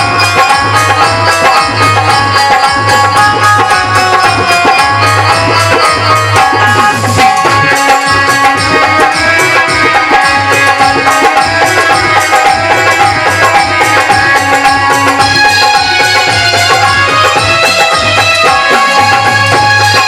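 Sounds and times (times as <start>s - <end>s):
hand drum beat: 0.0s - 20.0s
held melodic tones: 0.0s - 20.0s.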